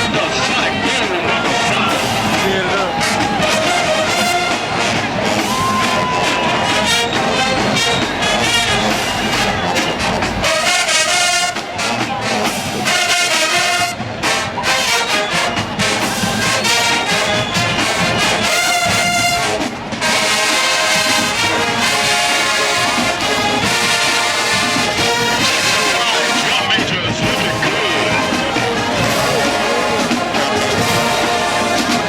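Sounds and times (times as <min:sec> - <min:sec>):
brass band playing: 0:00.0 - 0:32.0.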